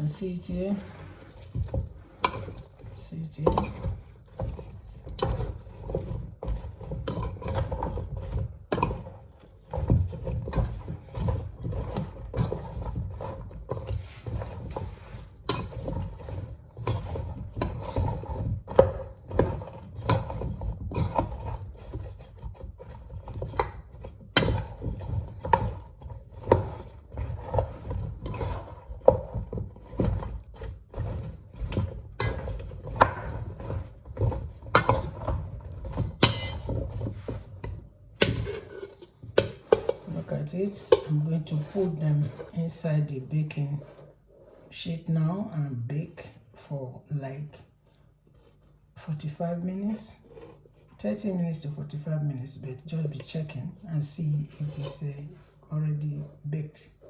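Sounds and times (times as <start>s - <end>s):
food being mixed in a bowl: 0.0s - 57.0s.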